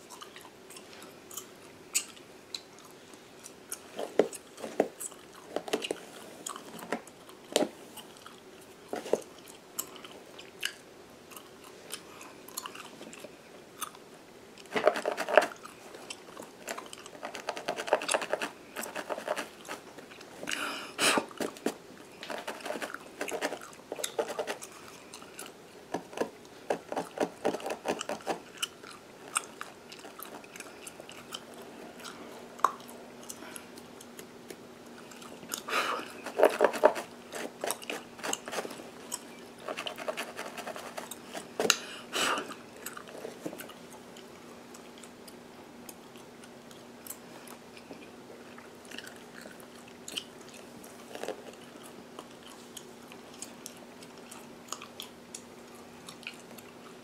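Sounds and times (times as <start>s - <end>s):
gum chewing and smacking: 0.0s - 20.6s, 21.2s - 57.0s.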